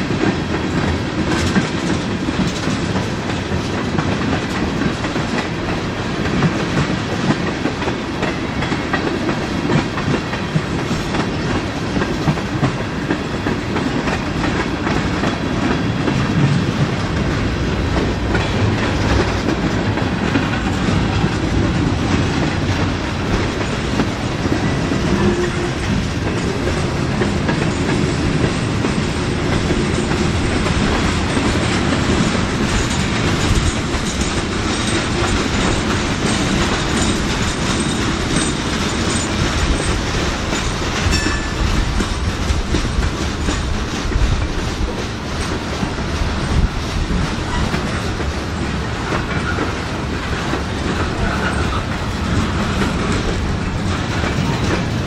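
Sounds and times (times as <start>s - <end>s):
train wheels rumbling on rail: 0.0s - 55.0s
wheels clickety-clack on rail joints: 0.0s - 55.0s.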